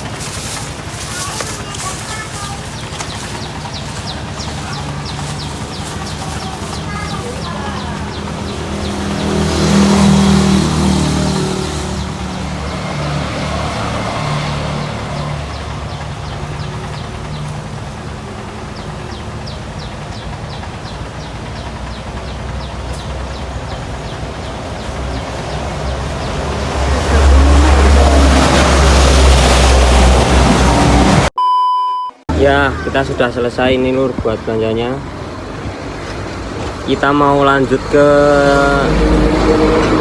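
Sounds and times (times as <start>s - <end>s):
traffic noise: 0.0s - 31.3s, 32.3s - 40.0s
vehicle running: 0.0s - 31.3s, 32.3s - 40.0s.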